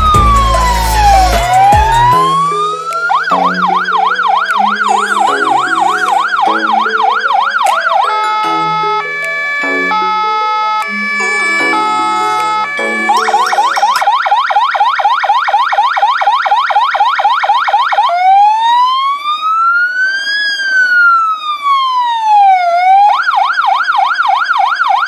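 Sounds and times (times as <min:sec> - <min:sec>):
fire engine siren: 0:00.0 - 0:25.0.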